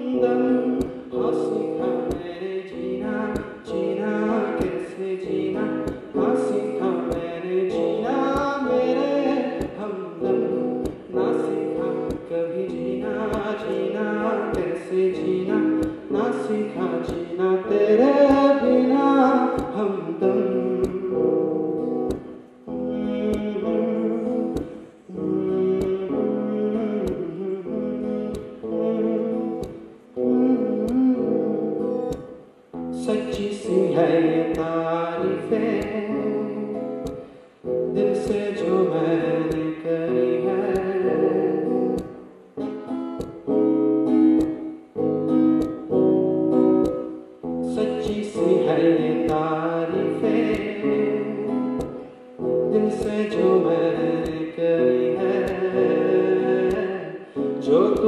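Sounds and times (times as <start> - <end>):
man singing: 0.0 - 46.0, 46.8 - 58.0
strummed acoustic guitar: 0.0 - 58.0.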